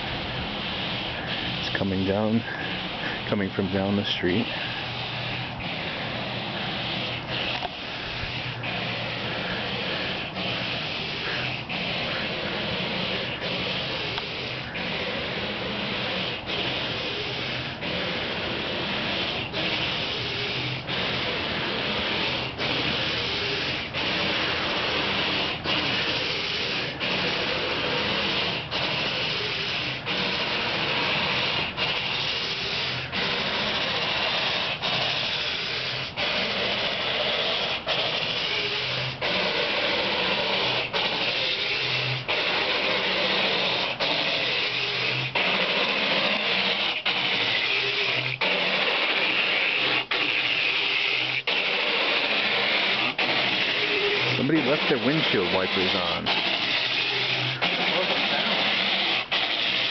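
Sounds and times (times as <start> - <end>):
windshield wipers screeching on glass: 1.0 - 59.9.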